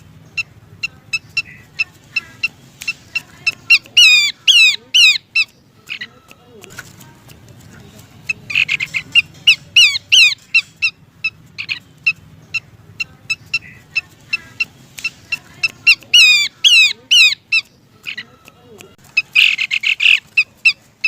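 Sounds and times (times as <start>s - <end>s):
bird calling sharp notes: 0.3s - 6.1s, 8.2s - 18.3s, 19.0s - 21.0s.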